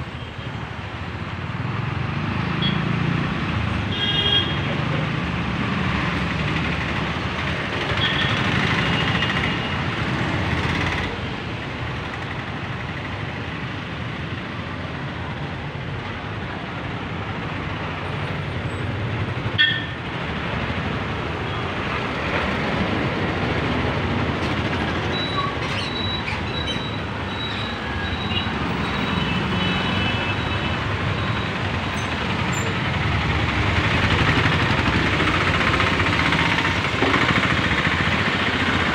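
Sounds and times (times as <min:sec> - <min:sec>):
traffic engines passing: 0:00.0 - 0:38.9.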